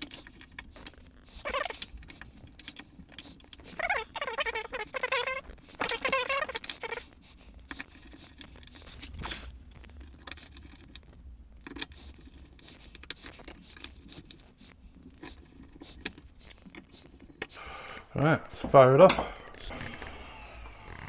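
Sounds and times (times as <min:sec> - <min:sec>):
parts clicking and scraping: 0:00.0 - 0:21.0.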